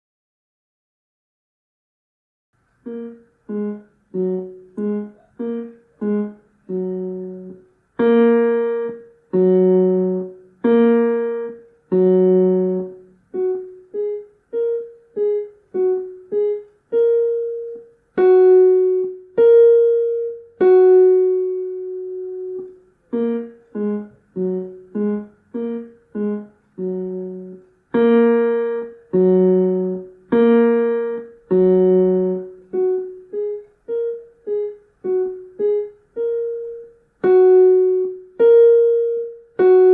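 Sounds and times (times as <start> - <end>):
piano playing detached notes: 2.8 - 39.9.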